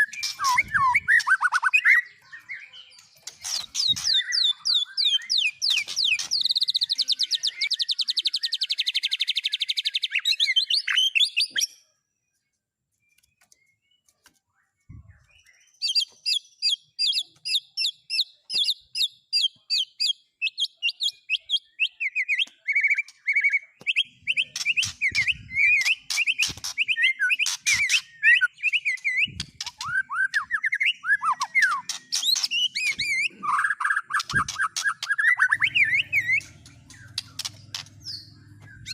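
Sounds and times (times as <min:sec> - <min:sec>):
songbird chirps and trills: 0:00.0 - 0:38.9.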